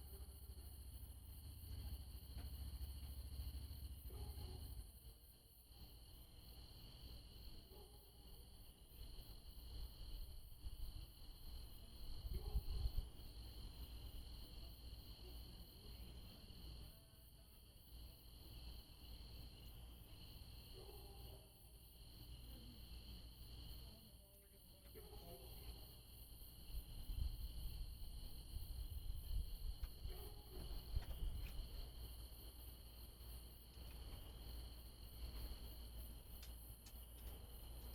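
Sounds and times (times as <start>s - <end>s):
night insects chirping: 0.0s - 37.9s.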